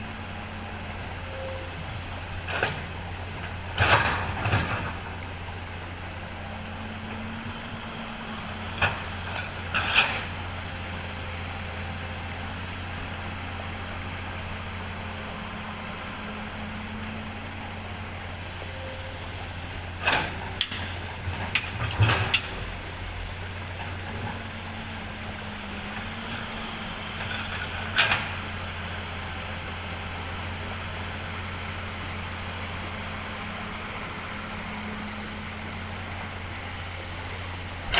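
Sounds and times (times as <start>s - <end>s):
excavator diesel engine: 0.0s - 37.9s.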